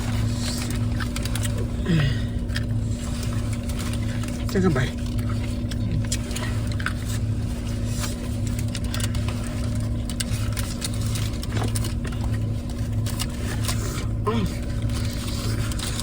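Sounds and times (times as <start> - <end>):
car engine idling: 0.0 - 16.0
faint clicks and rustles: 0.0 - 16.0.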